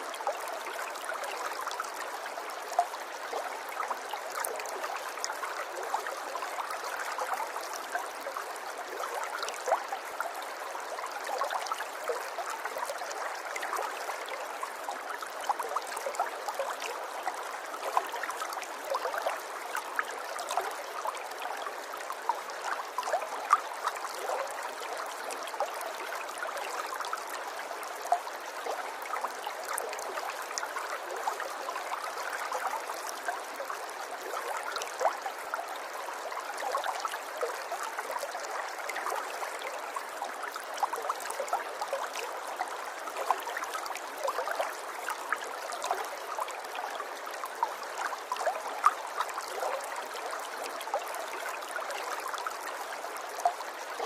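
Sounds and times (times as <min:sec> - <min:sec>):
river water babbling over stones: 0:00.0 - 0:54.0.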